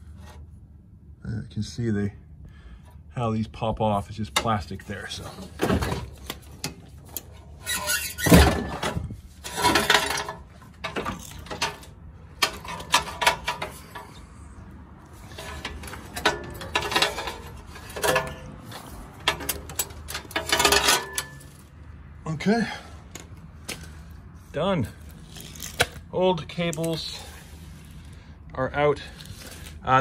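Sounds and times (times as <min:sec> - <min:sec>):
cables scraping and rustling: 0:04.1 - 0:21.7, 0:23.0 - 0:30.0.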